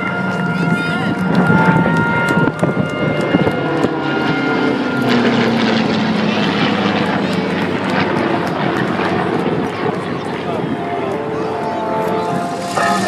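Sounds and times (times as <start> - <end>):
turboprop plane flying by: 0.0 - 13.0.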